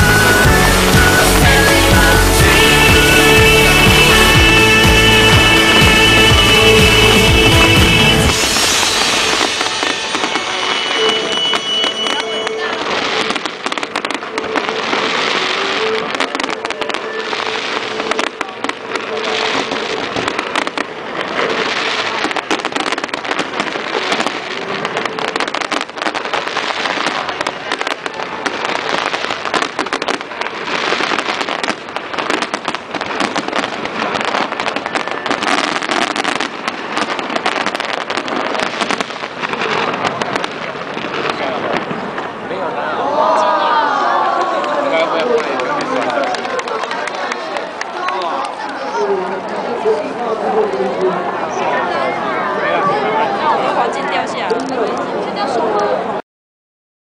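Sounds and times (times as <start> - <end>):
fireworks crackles and bangs: 0.0 - 56.2.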